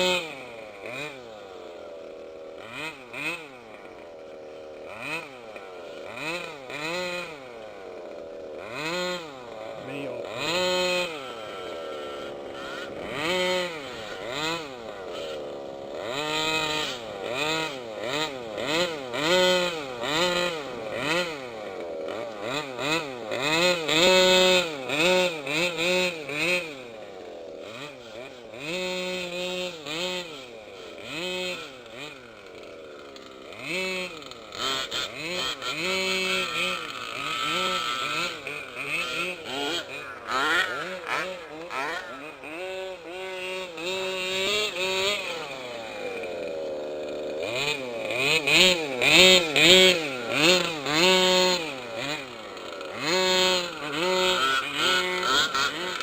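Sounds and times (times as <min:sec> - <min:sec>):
small two-stroke engines revving: 0:00.0 - 0:56.0.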